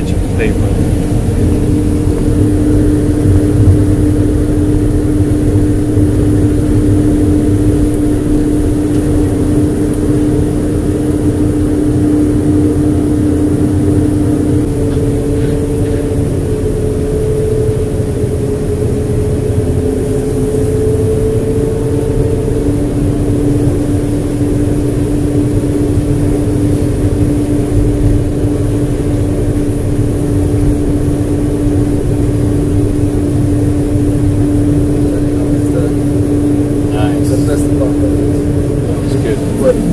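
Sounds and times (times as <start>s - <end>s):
held hum: 0.0s - 39.9s
street sweeper machine drone: 0.0s - 39.9s.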